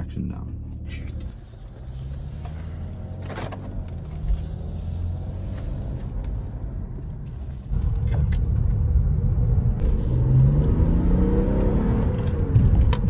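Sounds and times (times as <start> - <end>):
diesel engine running: 0.0 - 10.5.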